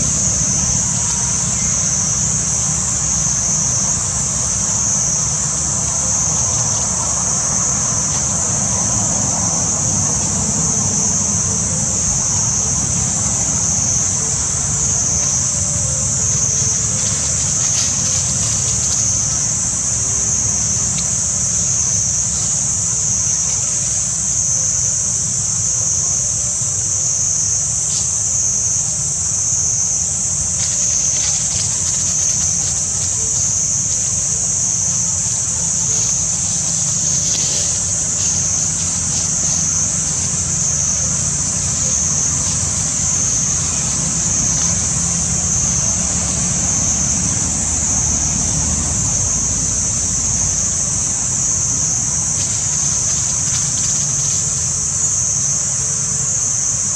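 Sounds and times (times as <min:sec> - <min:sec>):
dry leaves rustling: 0:00.0 - 0:56.9
high-pitched insect drone: 0:00.0 - 0:56.9.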